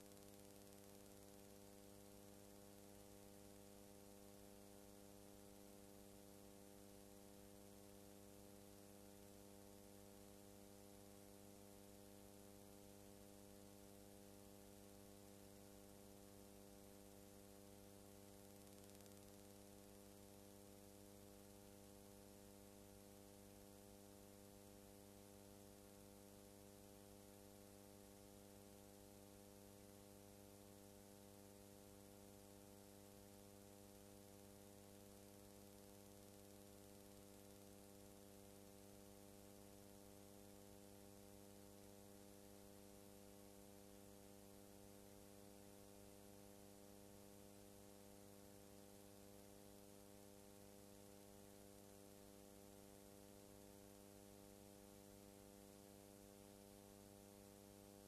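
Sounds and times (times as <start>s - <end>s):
faint electrical hum with hiss: 0.0s - 58.0s.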